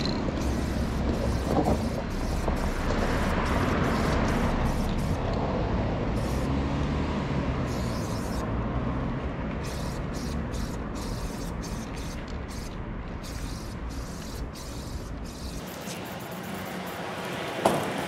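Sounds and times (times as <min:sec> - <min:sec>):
city street traffic: 0:00.0 - 0:18.0
motor vehicle passing: 0:00.1 - 0:18.0.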